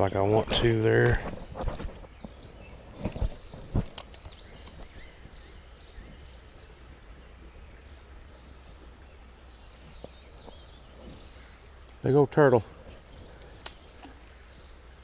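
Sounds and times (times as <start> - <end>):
low outdoor rumble: 0.0 - 15.0
small birds chirping: 0.0 - 15.0.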